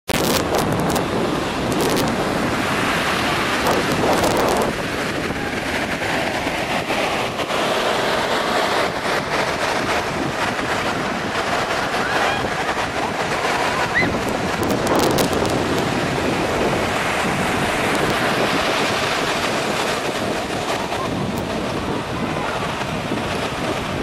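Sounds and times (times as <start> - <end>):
ocean surf breaking: 0.1 - 24.0
wind buffeting microphone: 0.1 - 24.0.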